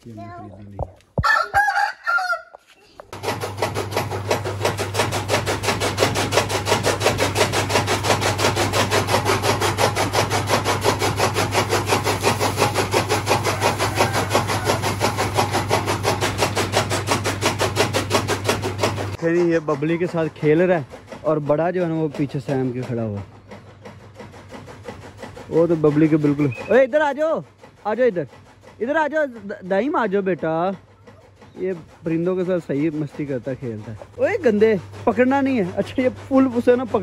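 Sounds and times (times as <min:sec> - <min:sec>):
machine clattering: 0:03.1 - 0:37.0.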